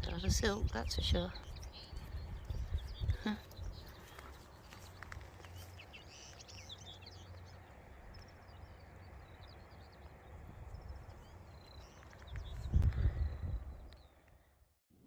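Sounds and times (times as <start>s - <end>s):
small bird chirping: 0.0s - 14.2s
wind rumbling on microphone: 0.0s - 14.7s.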